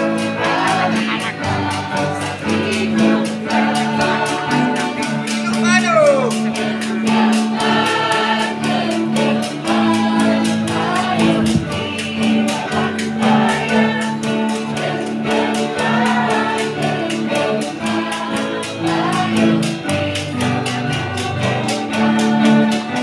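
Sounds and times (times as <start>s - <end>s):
acoustic guitar: 0.0s - 23.0s
choir singing in harmony: 0.0s - 23.0s.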